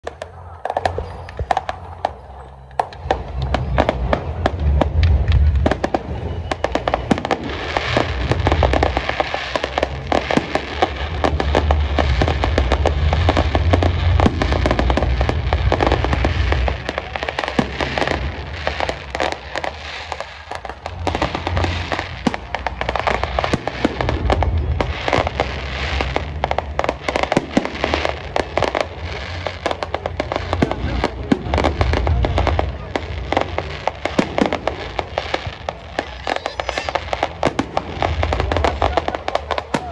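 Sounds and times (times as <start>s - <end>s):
fireworks bangs and crackles: 0.0s - 39.9s
deep booming explosions: 2.8s - 39.9s.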